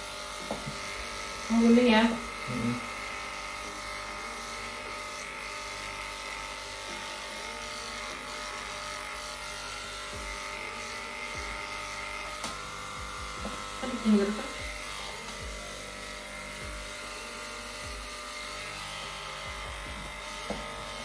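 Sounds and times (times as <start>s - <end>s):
hair clipper buzzing: 0.0s - 21.0s.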